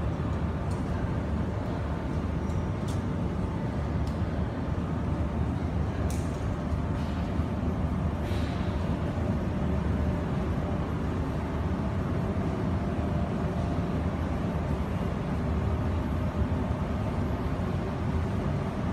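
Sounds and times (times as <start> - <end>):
factory low rumble: 0.0 - 18.9.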